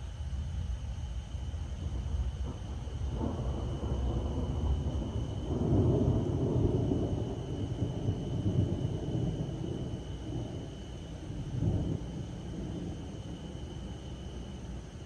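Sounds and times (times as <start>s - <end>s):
thunder rumbling: 1.8s - 15.0s.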